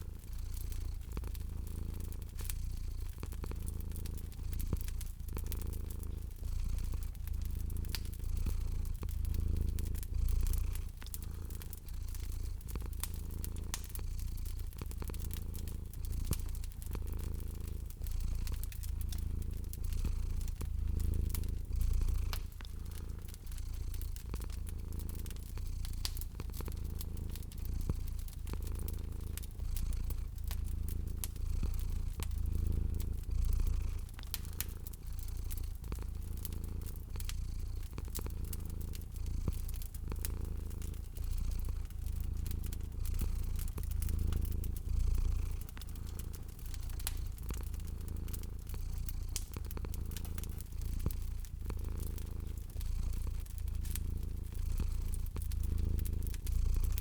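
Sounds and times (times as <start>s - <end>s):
cat purring: 0.0s - 57.0s
wood fire crackling: 0.0s - 57.0s.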